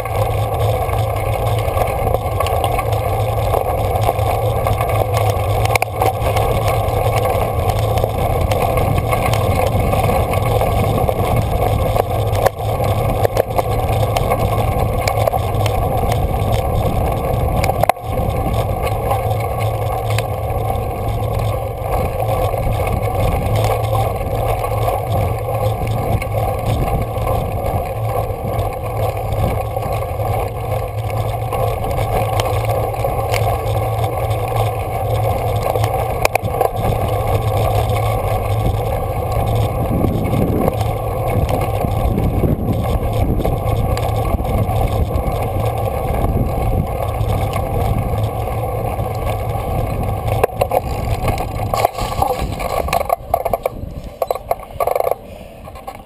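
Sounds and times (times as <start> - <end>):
bike clicks from bumps: 0.0 - 56.0
bike tyre rumble: 0.0 - 56.0.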